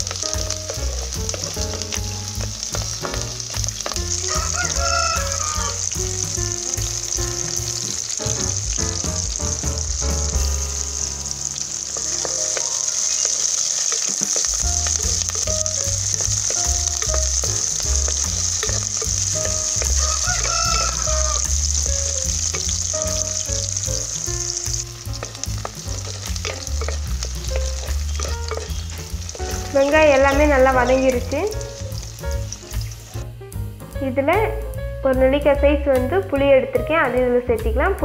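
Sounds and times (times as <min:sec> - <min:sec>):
spatula stirring: 0:00.0 - 0:10.6, 0:11.6 - 0:33.2
food sizzling in hot oil: 0:00.0 - 0:38.0.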